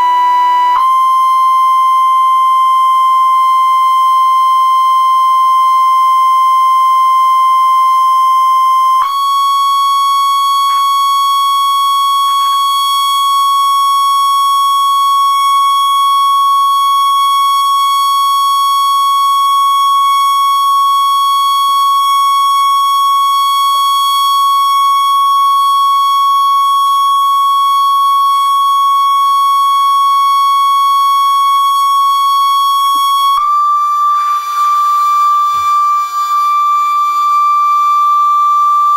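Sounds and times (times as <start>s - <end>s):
high sine-wave test tone: 0.0s - 38.9s.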